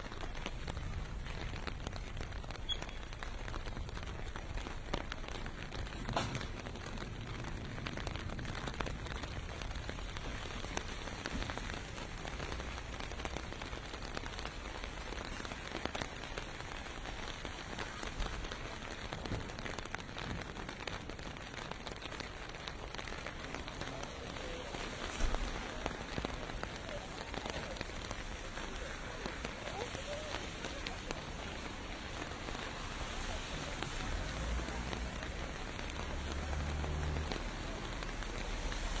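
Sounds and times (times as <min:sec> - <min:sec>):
rain pelting pavement: 0:00.0 - 0:39.0.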